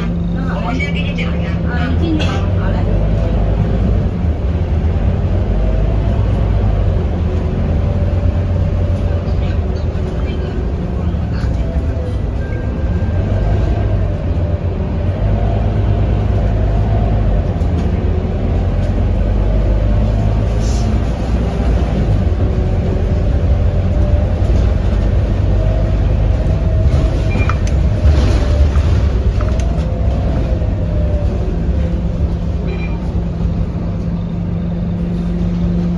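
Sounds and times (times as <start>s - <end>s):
bus engine rumbling: 0.0s - 35.9s.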